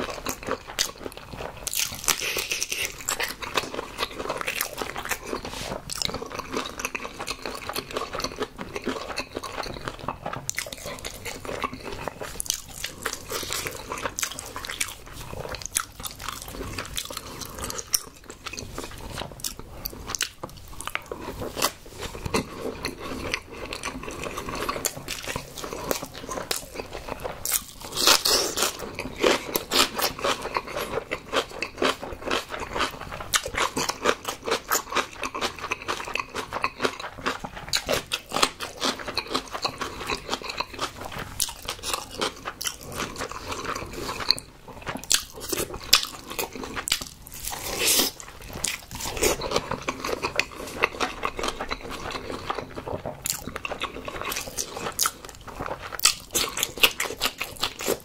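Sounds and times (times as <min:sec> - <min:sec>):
person chewing and biting: 0:00.0 - 0:58.0.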